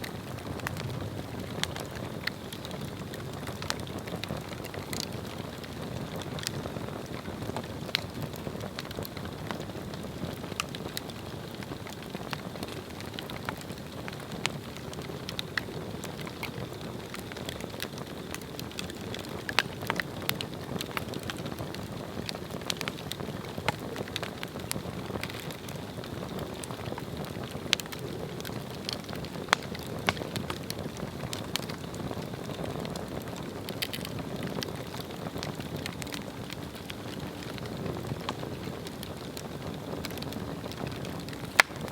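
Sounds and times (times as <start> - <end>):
burning wood crackling: 0.0 - 41.9
fire roaring: 0.0 - 41.9.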